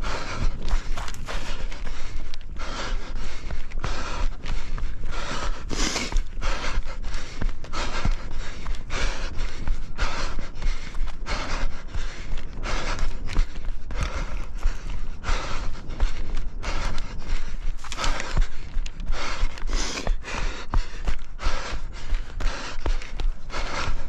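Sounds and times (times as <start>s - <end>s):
person breathing while running: 0.0s - 24.0s
running footsteps: 0.0s - 24.0s.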